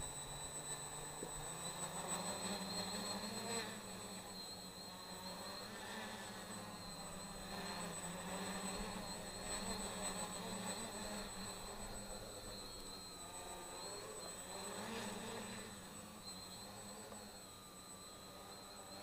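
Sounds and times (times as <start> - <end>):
quadcopter motors buzzing: 0.0 - 19.0.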